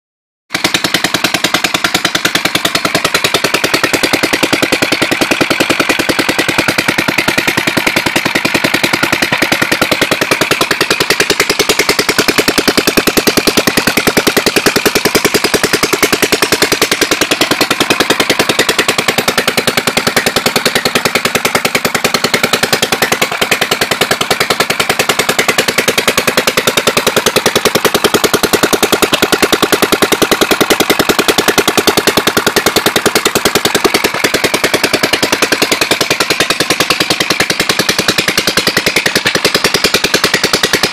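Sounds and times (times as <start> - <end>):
boat engine running: 0.5 - 40.9.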